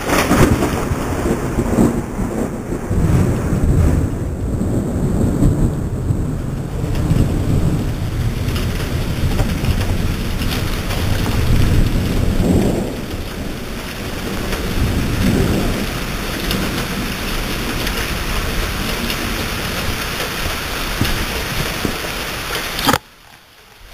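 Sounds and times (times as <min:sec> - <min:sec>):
thunder rumbling: 0:00.0 - 0:23.0
steady rain: 0:00.0 - 0:23.9.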